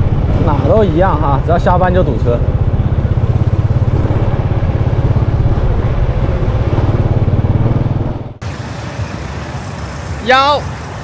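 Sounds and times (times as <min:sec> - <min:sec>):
motor scooter engine running: 0:00.0 - 0:11.0
street background noise: 0:00.0 - 0:11.0.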